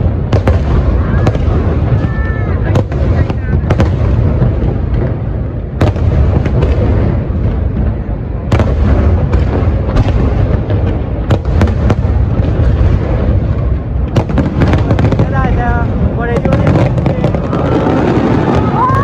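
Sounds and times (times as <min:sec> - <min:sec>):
fireworks booming: 0:00.0 - 0:19.0
sharp firework bangs: 0:00.0 - 0:19.0.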